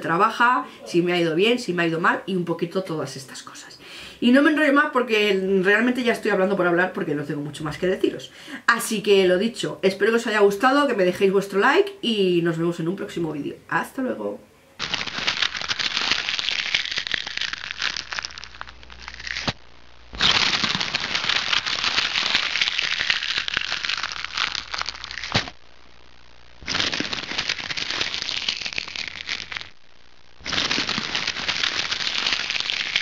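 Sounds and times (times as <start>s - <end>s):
dense static crackling: 0.0s - 33.0s.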